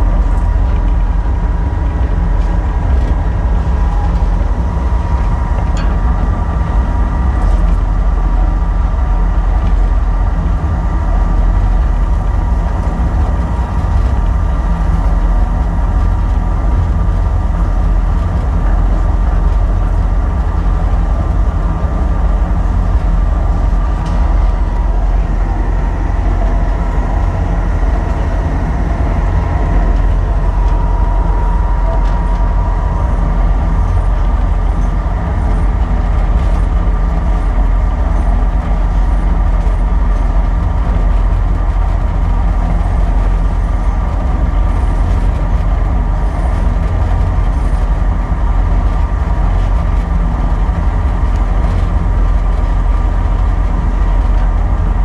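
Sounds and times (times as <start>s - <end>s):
steady whining tones: 0.0s - 49.2s
elevator low rumble: 0.0s - 55.0s.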